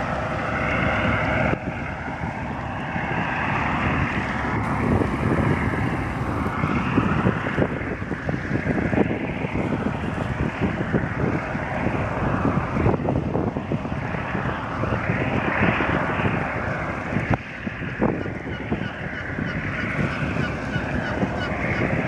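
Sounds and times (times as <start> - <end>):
rushing water wash: 0.0 - 22.0
wind buffeting microphone: 0.0 - 22.0.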